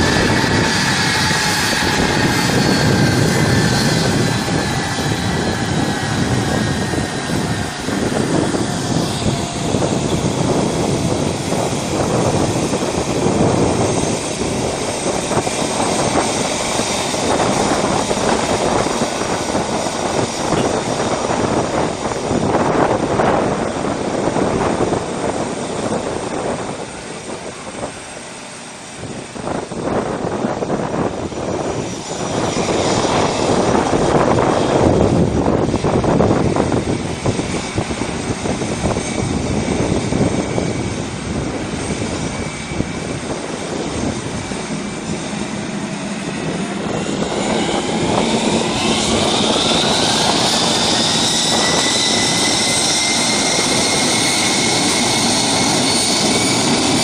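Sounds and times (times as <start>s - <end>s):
high engine whine: 0.0s - 57.0s
jet engines rushing: 0.0s - 57.0s.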